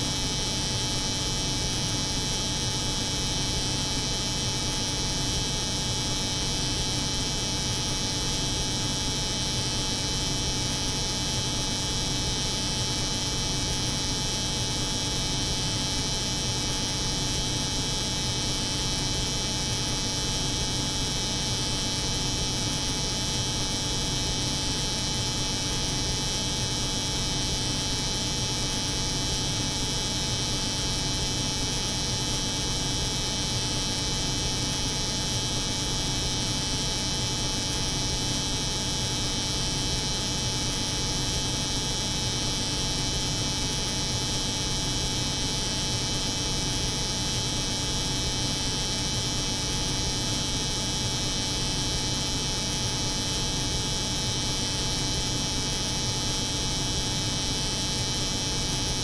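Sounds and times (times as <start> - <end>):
cold room hum: 0.0 - 59.0.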